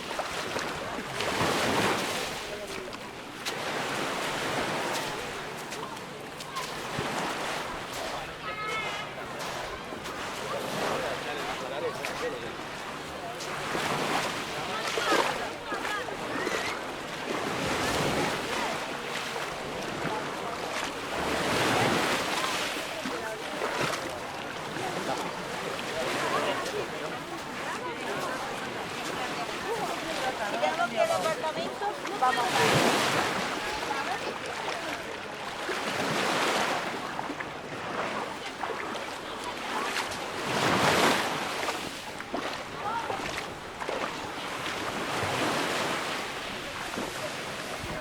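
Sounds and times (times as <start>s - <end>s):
sea surf washing: 0.0s - 48.0s.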